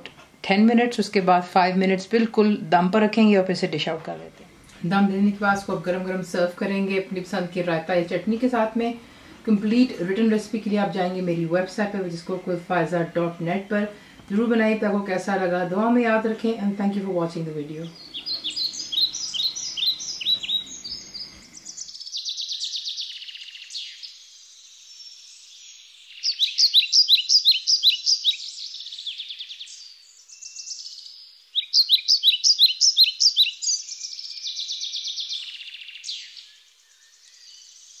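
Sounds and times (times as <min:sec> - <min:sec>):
bird chirping: 0:05.2 - 0:38.0.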